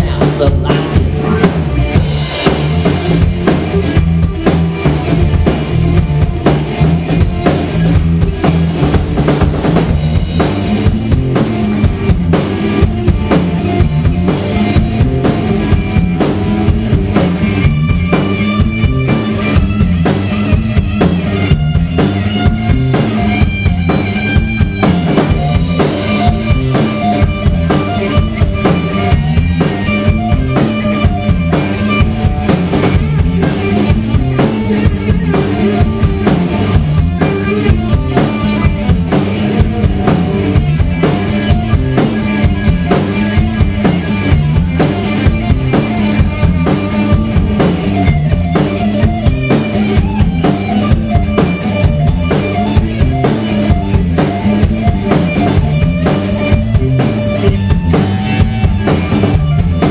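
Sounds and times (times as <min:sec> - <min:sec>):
drum kit beat: 0:00.0 - 0:59.9
rock band playing: 0:00.0 - 0:59.9.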